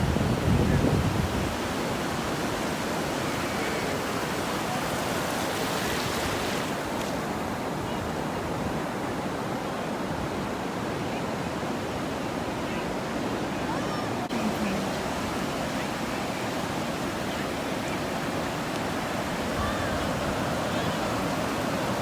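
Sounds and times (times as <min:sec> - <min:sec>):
ocean surf washing onto beach: 0:00.0 - 0:22.0.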